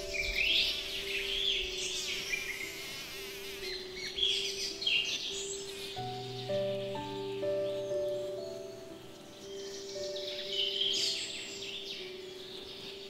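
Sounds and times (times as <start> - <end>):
birds chirping: 0.0 - 13.0
soft background music: 0.0 - 13.0.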